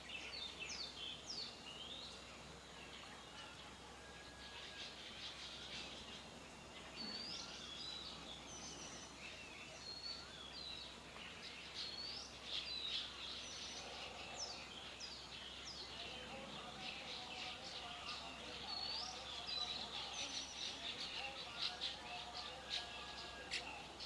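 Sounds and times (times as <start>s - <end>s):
outdoor background noise: 0.0s - 24.0s
small birds chirping and singing: 0.0s - 24.0s.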